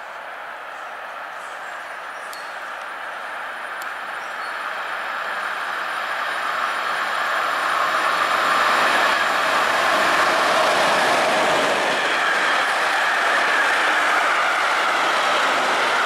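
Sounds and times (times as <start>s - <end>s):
freight train approaching: 0.0s - 16.0s.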